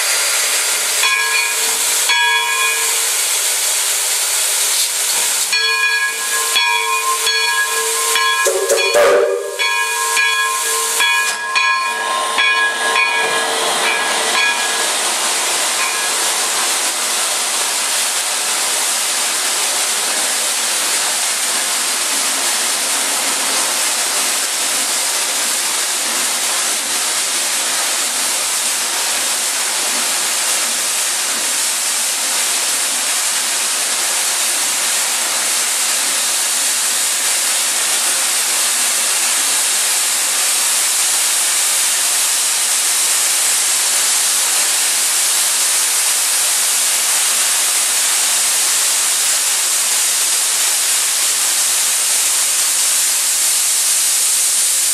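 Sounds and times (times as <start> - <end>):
steam hissing from locomotive: 0.0 - 54.9.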